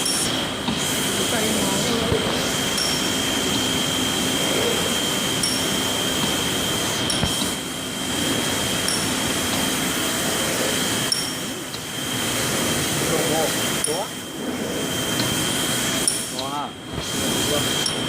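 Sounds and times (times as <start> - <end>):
glass cutting machine running: 0.0 - 18.0.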